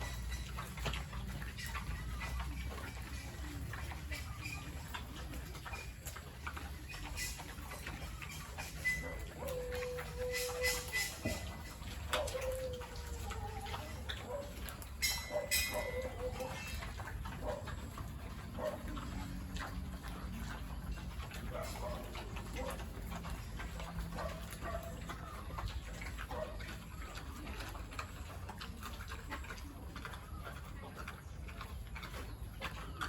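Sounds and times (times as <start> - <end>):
farm animals calling: 0.0 - 33.0.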